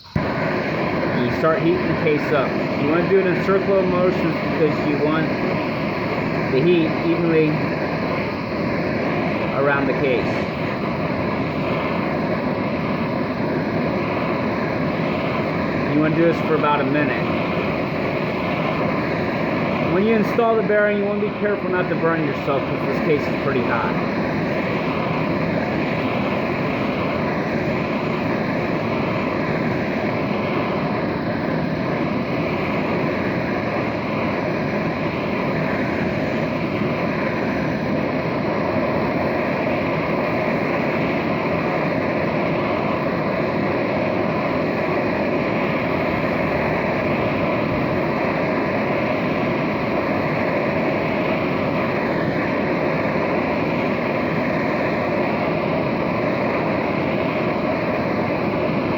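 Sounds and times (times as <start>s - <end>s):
gas torch flame burning: 0.0s - 58.9s.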